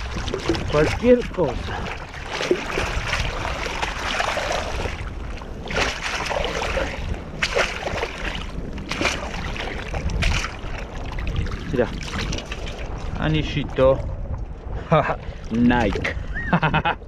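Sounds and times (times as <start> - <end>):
water sloshing and splashing: 0.0 - 16.8.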